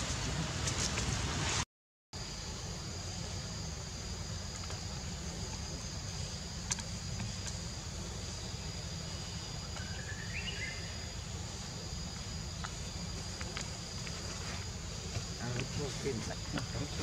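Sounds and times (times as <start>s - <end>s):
insects droning: 2.2s - 17.0s
low steady rumble: 2.2s - 17.0s.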